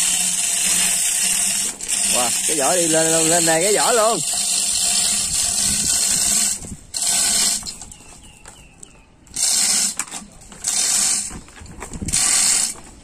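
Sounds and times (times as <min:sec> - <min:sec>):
ratchet clicking: 0:00.0 - 0:07.9, 0:09.3 - 0:11.3, 0:12.1 - 0:12.8
hoist chain rattling: 0:00.0 - 0:08.0, 0:09.3 - 0:12.8.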